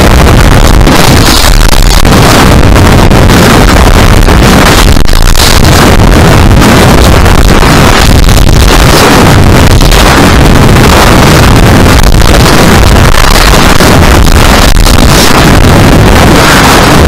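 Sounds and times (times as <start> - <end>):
loud wind buffeting microphone: 0.0 - 17.0.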